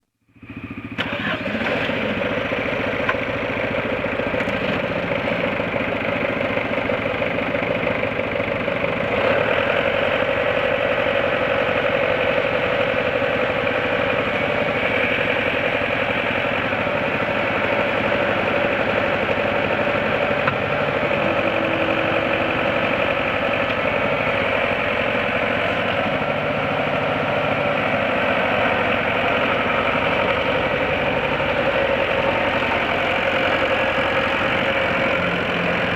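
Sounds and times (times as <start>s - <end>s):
diesel engine idling: 0.3s - 35.9s.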